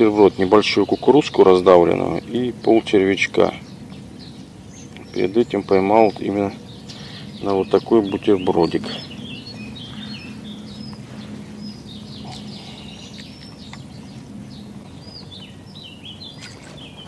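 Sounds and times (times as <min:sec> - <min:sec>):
faint low hum: 0:00.0 - 0:17.0
wild birds chirping and singing: 0:00.0 - 0:17.0.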